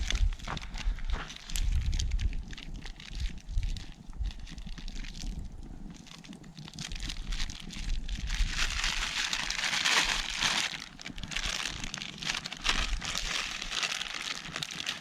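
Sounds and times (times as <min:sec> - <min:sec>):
wrapping crinkling: 0:00.0 - 0:15.0.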